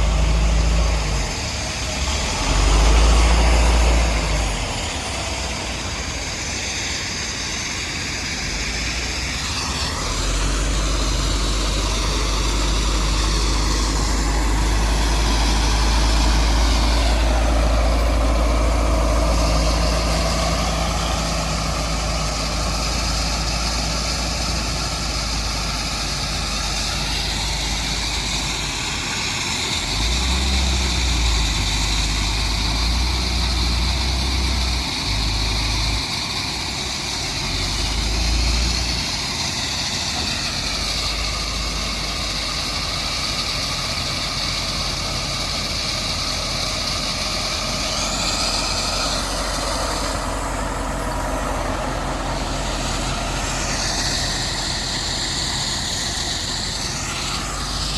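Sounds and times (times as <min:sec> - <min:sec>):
diesel engine rumble: 0:00.0 - 0:57.9
high machinery whine: 0:00.0 - 0:57.9.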